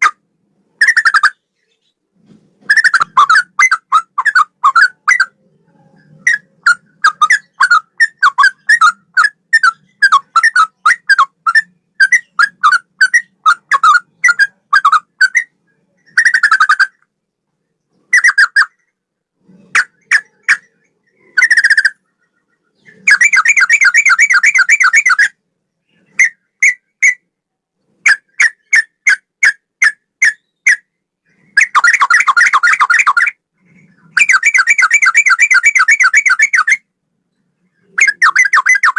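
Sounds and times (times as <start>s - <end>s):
bird singing whistled notes: 2.7s - 17.0s, 19.8s - 27.3s, 28.1s - 33.4s, 34.0s - 36.9s, 37.7s - 38.9s.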